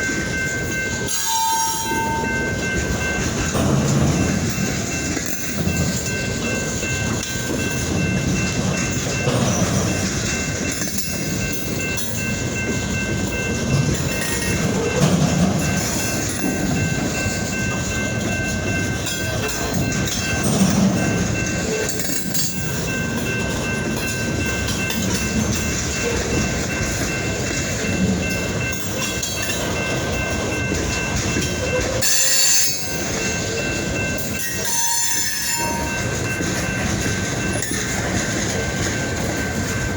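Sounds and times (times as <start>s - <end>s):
diesel locomotives rumbling: 0.0s - 39.9s
railroad cars rolling and clanking: 0.0s - 39.9s.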